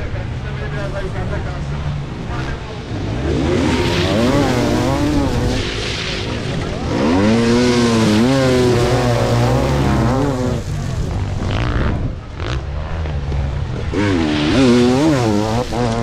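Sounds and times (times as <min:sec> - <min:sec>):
low drone of engines: 0:00.0 - 0:16.0
motorbike engines revving: 0:00.0 - 0:16.0.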